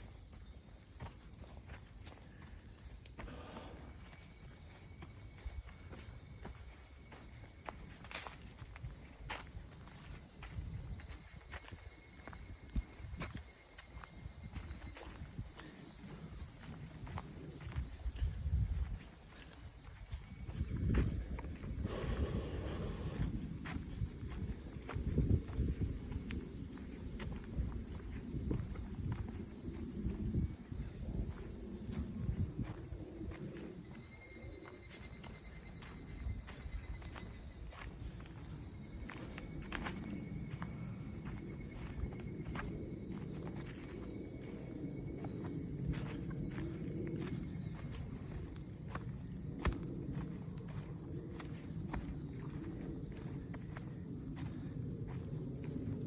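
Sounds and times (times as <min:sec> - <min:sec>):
footsteps on forest trail: 0:00.0 - 0:56.0
insects droning: 0:00.0 - 0:56.0.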